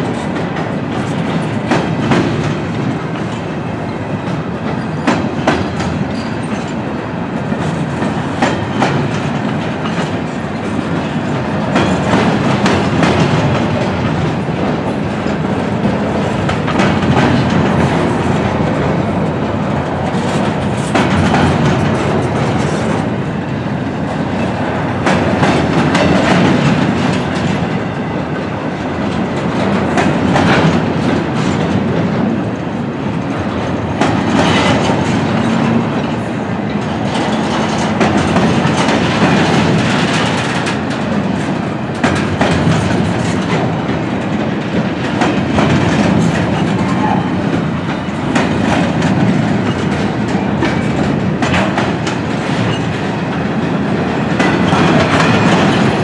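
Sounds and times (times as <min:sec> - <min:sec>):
freight train rumble: 0:00.0 - 0:56.0
wheels clacking on rails: 0:00.0 - 0:56.0.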